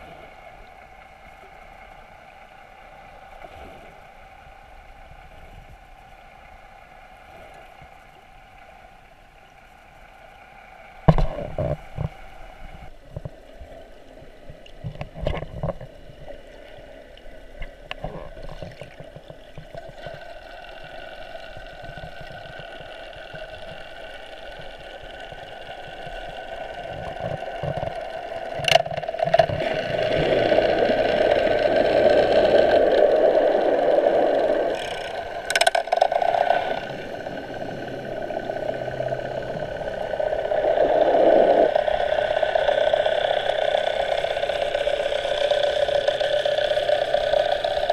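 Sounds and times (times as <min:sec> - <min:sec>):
motorboat engine underwater: 0:00.0 - 0:47.9.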